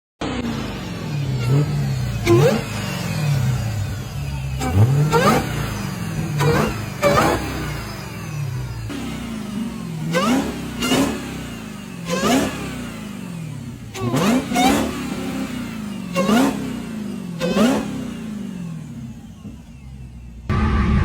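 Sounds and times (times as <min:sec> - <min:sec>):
car engine revving in blips: 0:00.2 - 0:21.0
supercharger whine: 0:00.2 - 0:21.0.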